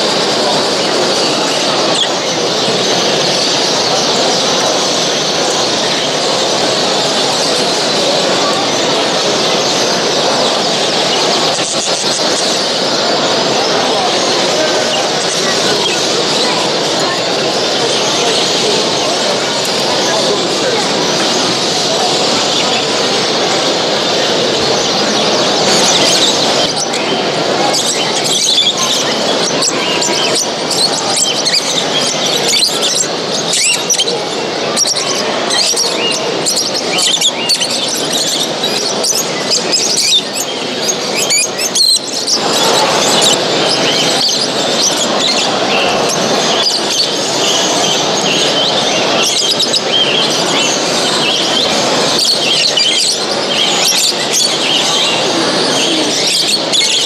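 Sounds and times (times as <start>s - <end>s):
low hubbub: 0.0s - 57.0s
songbirds chirping and singing: 0.0s - 57.0s.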